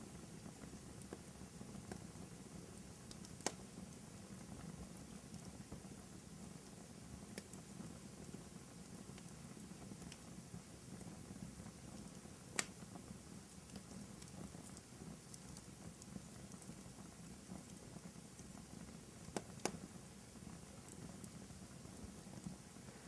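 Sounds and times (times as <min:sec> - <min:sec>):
fire popping: 0:00.0 - 0:23.0
wood fire crackling: 0:00.0 - 0:23.0.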